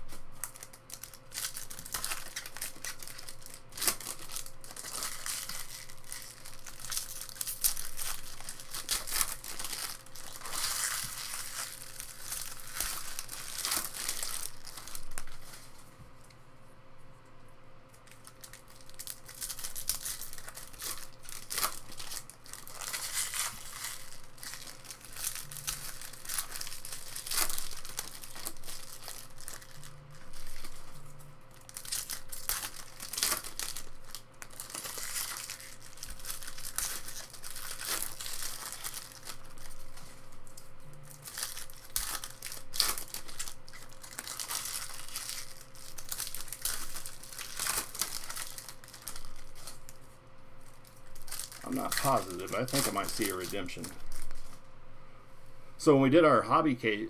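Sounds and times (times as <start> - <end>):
foil packs crinkling and tearing: 0.0 - 15.8, 18.0 - 50.0, 50.6 - 54.6
faint steady hum: 0.0 - 57.0.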